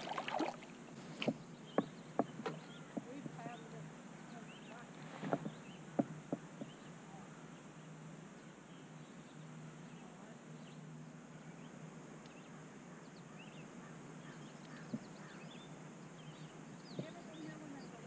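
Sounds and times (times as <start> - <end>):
faint background hiss: 0.0 - 18.0
faint bird chirps: 1.3 - 6.0, 6.6 - 18.0.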